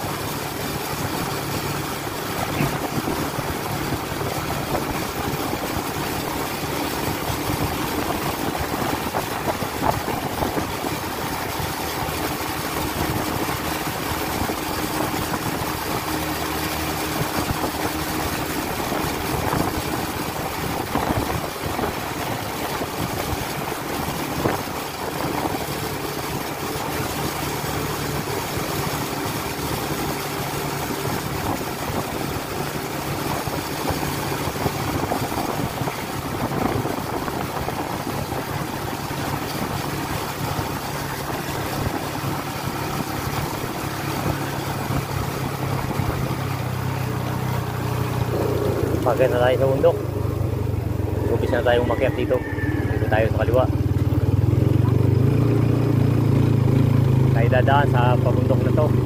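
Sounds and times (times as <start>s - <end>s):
road and wind noise: 0.0s - 59.0s
vehicle engine running: 0.0s - 59.0s.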